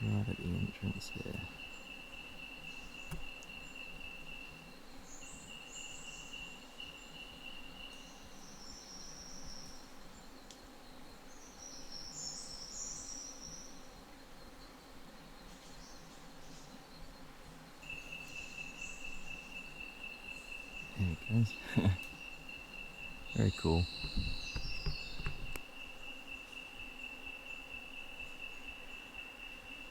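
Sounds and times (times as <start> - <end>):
buzzy insect trills: 0.0 - 29.9
insects whining: 0.0 - 29.9.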